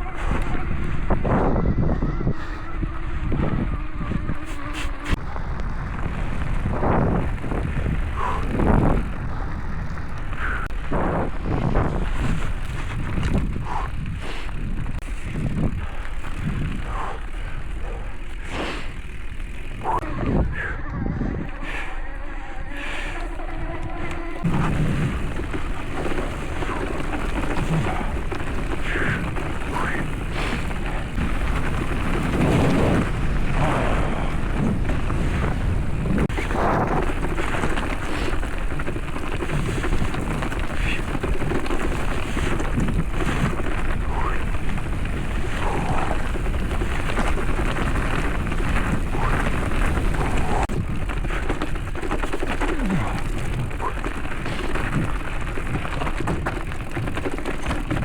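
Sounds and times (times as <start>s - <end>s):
mountain bike rattling on trail: 0.0s - 58.0s
wind rumble on microphone: 0.0s - 58.0s.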